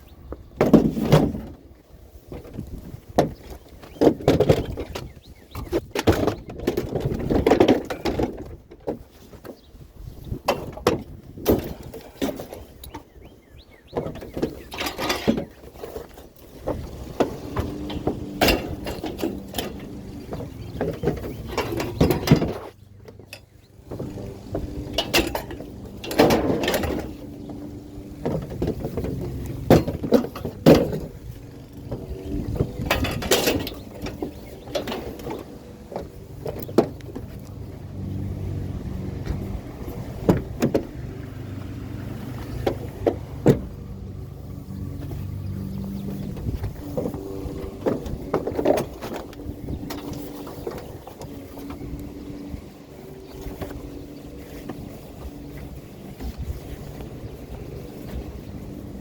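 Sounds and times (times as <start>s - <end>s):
engine running steadily: 0.0s - 59.0s
metallic clanks and rattles: 0.0s - 59.0s.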